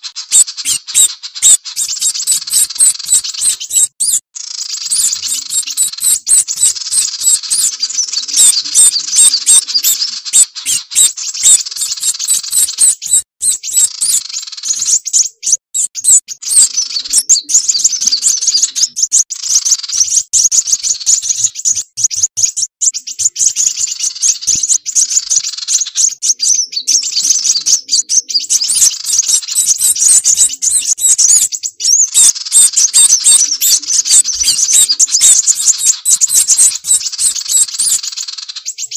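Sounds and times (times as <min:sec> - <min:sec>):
rapid high-pitched bird chirps: 0:00.0 - 0:38.9.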